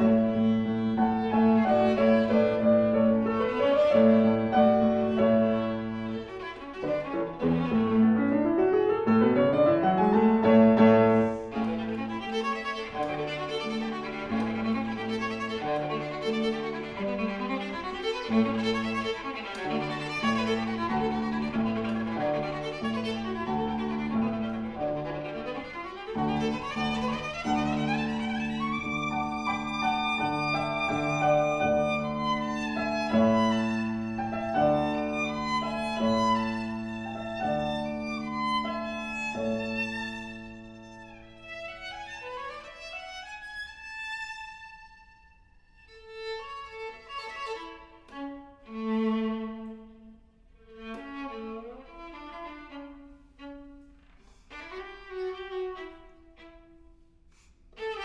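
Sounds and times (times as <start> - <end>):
viola playing slow passage: 0.0 - 57.0.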